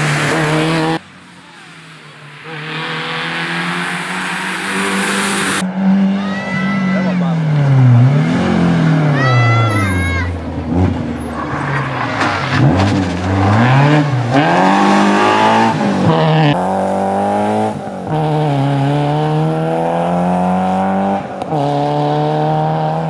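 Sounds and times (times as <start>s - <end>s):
rally car engine driven hard: 0.0s - 23.0s.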